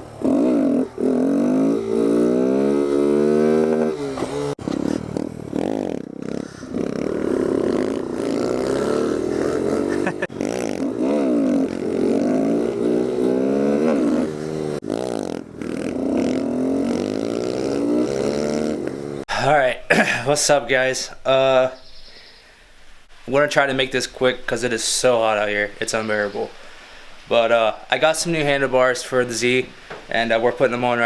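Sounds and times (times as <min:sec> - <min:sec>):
motorcycle engine revving: 0:00.0 - 0:19.3, 0:19.9 - 0:31.0.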